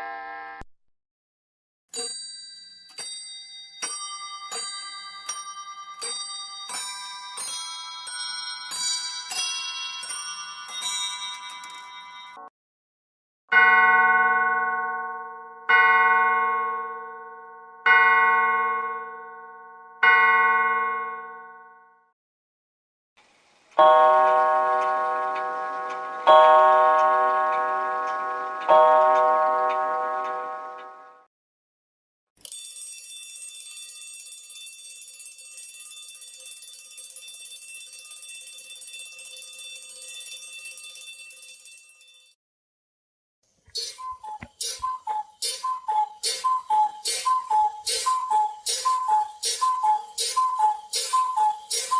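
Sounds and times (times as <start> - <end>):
alarm clock bell ringing: 2.0 - 12.5, 13.5 - 21.9, 23.8 - 31.3, 32.4 - 42.4, 43.8 - 51.9.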